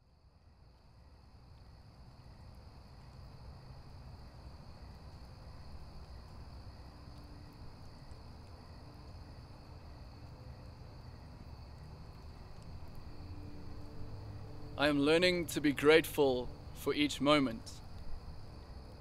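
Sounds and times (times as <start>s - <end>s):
crickets chirring: 0.1s - 19.0s.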